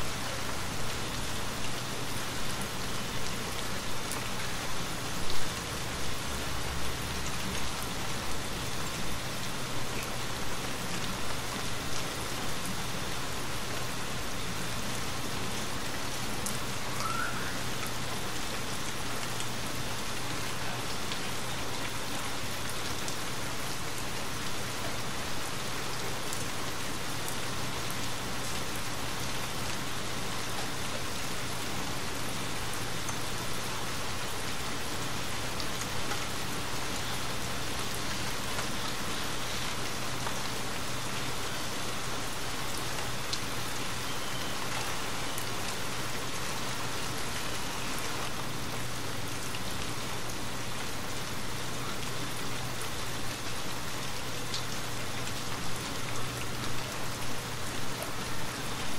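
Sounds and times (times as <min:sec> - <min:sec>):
steady rain patter: 0:00.0 - 0:58.9.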